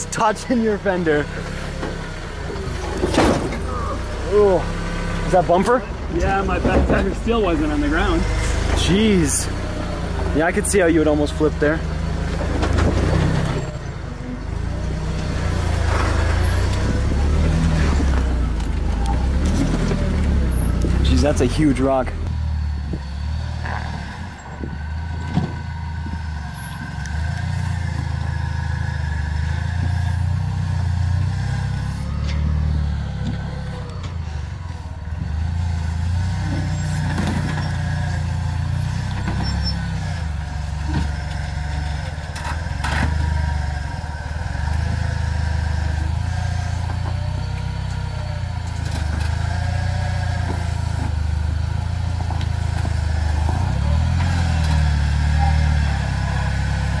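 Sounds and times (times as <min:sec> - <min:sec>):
engine running at low revs: 0:00.0 - 0:57.0.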